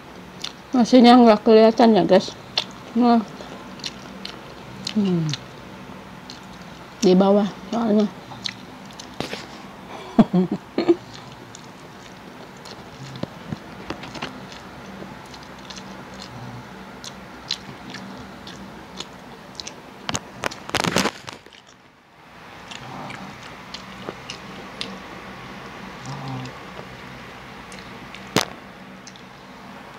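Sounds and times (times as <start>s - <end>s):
person chewing food: 0.4s - 0.7s, 2.5s - 7.0s, 7.7s - 9.8s, 10.9s - 21.9s, 22.6s - 29.4s.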